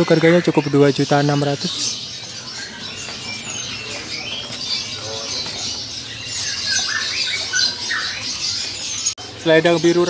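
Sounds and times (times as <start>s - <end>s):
background hubbub: 0.0s - 10.0s
songbirds chirping and whistling: 0.0s - 10.0s.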